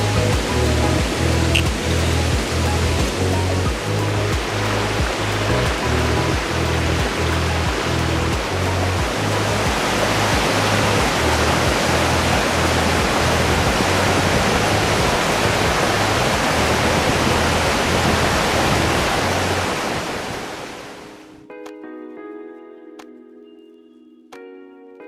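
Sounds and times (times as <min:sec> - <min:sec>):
background music with bass line: 0:00.0 - 0:20.3
steady rushing noise: 0:00.0 - 0:21.3.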